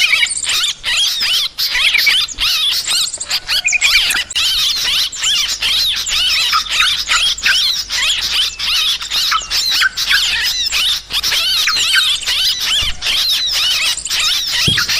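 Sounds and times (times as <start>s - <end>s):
flock of birds chattering: 0.0s - 14.9s.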